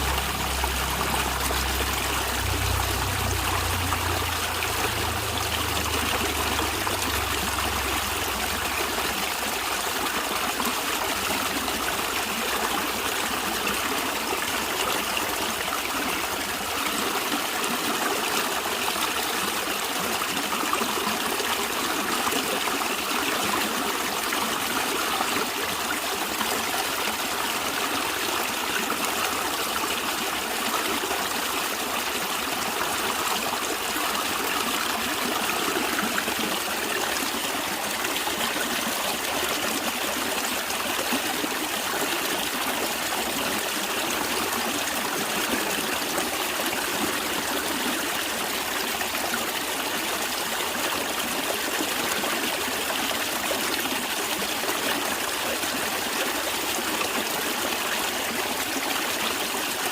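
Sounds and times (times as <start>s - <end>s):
stream water trickling: 0.0s - 59.9s.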